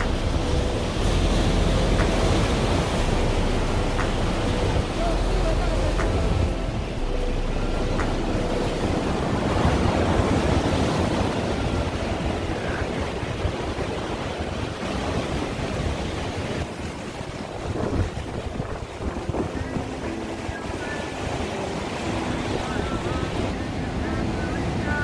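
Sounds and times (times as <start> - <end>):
surf breaking over rocks: 0.0 - 25.0
wind buffeting microphone: 0.0 - 25.0.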